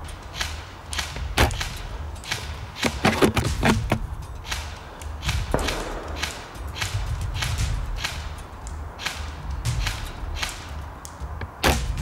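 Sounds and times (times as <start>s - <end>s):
steady low rumble: 0.0s - 12.0s
sharp clicks and snaps: 0.1s - 12.0s.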